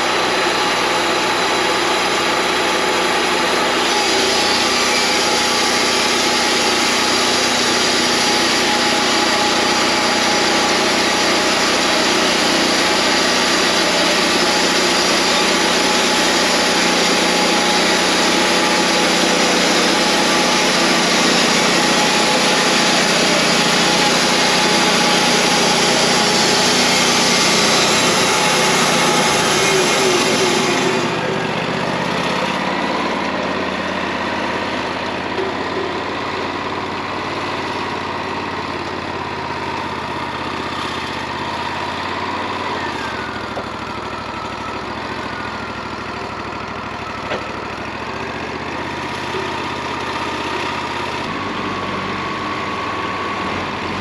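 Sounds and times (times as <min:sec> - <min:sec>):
bandsaw sawmill running: 0:00.0 - 0:54.0.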